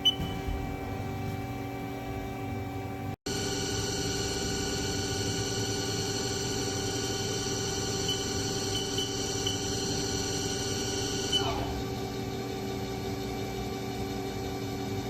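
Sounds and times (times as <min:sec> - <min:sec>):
lathe machine whine: 0:00.0 - 0:15.0.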